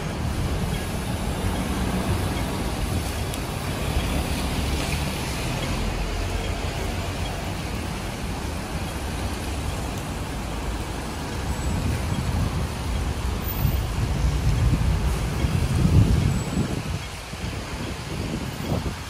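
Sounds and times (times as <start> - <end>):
low traffic rumble: 0.0 - 19.0
tyres hissing on wet road: 0.0 - 19.0.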